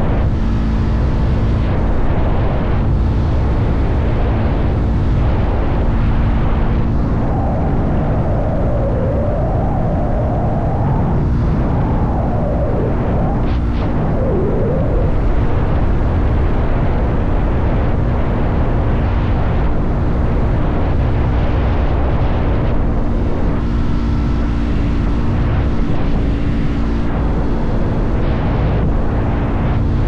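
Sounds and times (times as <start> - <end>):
wind and road noise rumble: 0.0 - 30.0.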